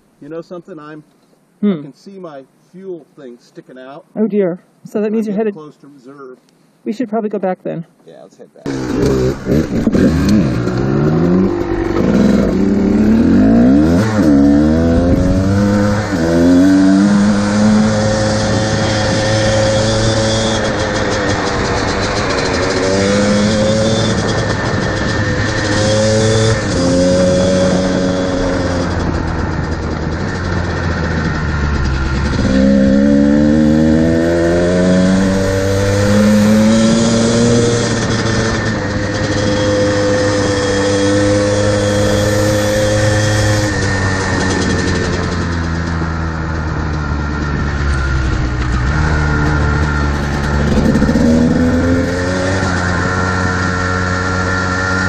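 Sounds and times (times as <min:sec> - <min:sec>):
dirt bike engine revving: 0:08.7 - 0:55.0.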